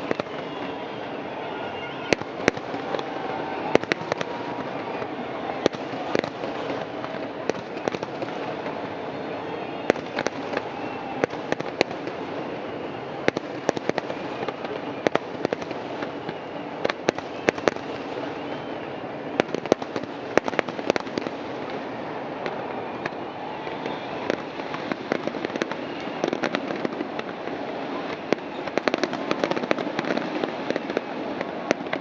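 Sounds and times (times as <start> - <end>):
distant fireworks rumble: 0.0 - 32.0
sharp fireworks bangs: 0.0 - 32.0.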